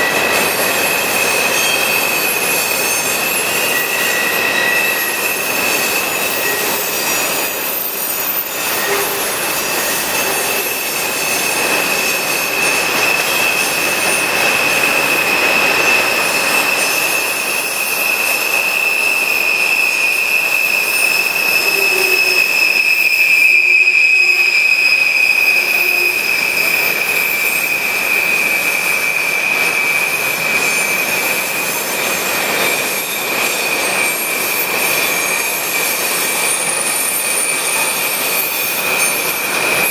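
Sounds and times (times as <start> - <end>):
train cars rumbling: 0.0 - 39.9
train wheels squealing: 0.0 - 39.9.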